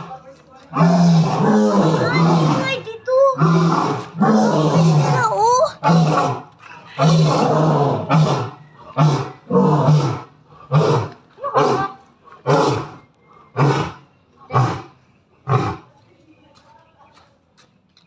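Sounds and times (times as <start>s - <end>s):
big cat roaring: 0.7s - 15.9s.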